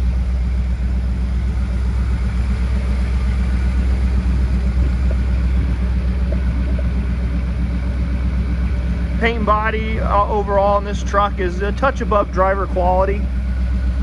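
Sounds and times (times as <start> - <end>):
engine idling with deep rumble: 0.0 - 14.0.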